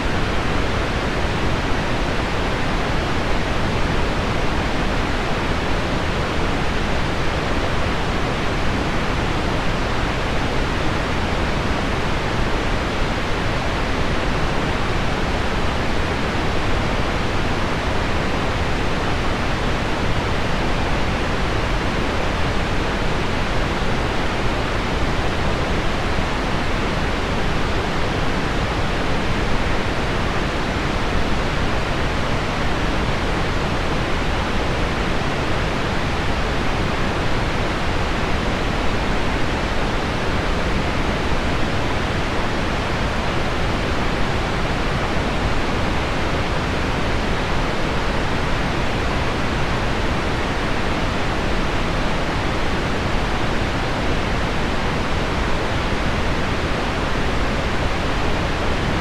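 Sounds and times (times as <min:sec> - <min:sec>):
pink noise: 0:00.0 - 0:59.0.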